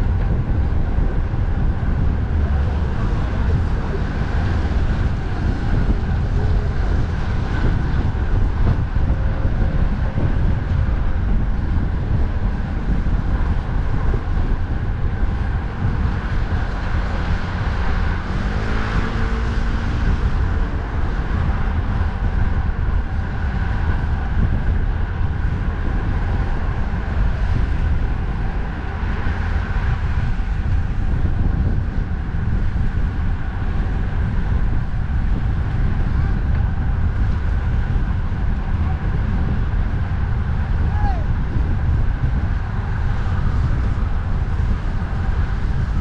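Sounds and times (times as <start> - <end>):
road traffic noise: 0.0 - 46.0
wind rumbling on microphone: 0.0 - 46.0.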